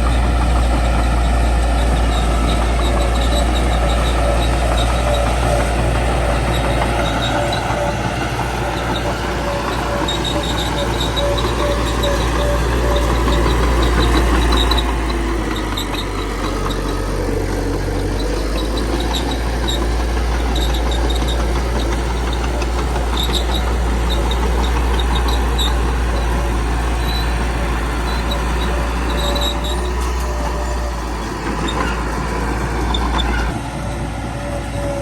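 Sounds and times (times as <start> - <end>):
bulldozer diesel engine running: 0.0 - 35.0
high squeaks from tracks: 0.0 - 35.0.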